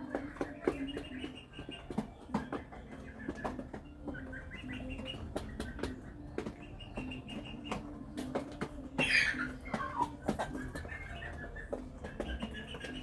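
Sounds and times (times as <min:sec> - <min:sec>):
beaks tapping on feed: 0:00.0 - 0:13.0
chickens clucking: 0:00.0 - 0:13.0.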